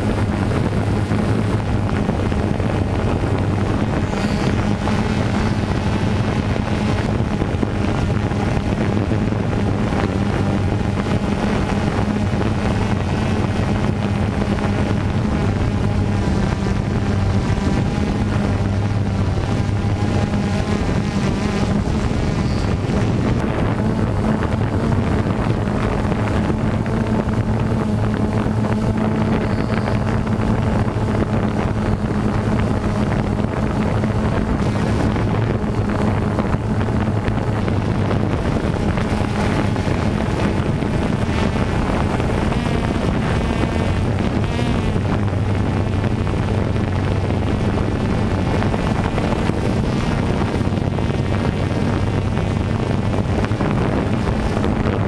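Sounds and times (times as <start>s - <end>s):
drone motors humming: 0.0s - 55.0s
wind on microphone: 0.0s - 55.0s.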